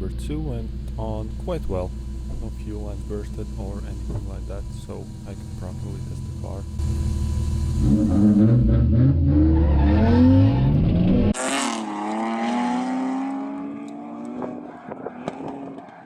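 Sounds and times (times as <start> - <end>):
car engine revving hard: 2.8 - 15.9.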